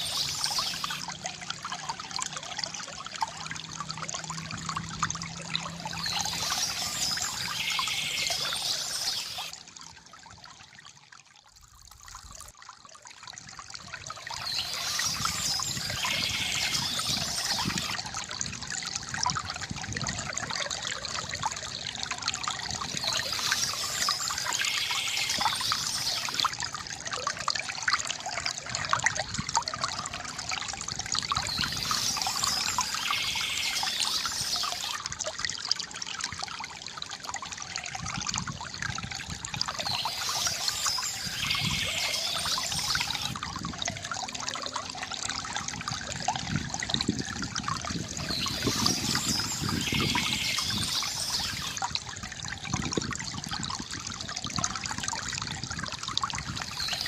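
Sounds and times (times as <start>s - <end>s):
water pouring from fountain spout: 0.0s - 57.0s.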